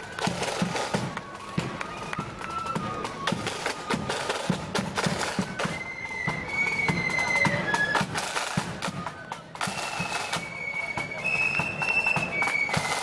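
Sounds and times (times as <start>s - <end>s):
high flute melody: 0.0s - 13.0s
snare and bass drums beat: 0.0s - 13.0s.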